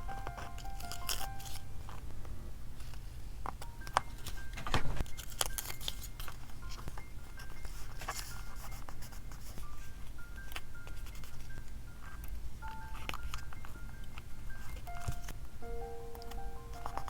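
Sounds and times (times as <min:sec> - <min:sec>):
plinking background music: 0:00.0 - 0:02.0, 0:03.6 - 0:17.0
stickers and paper rustling: 0:00.0 - 0:17.0.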